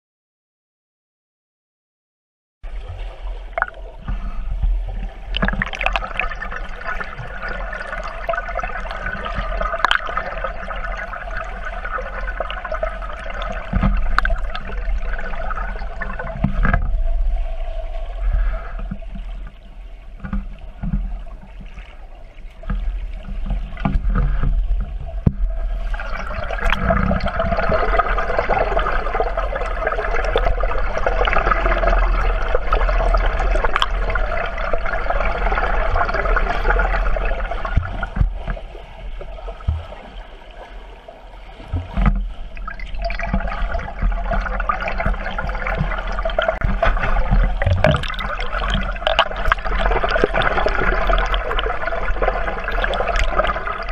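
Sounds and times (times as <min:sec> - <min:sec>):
underwater gurgling and churning: 0:02.6 - 0:53.9.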